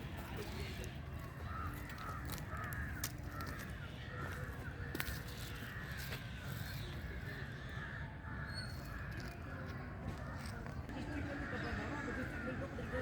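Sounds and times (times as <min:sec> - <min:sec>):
crows cawing: 0:00.7 - 0:13.0.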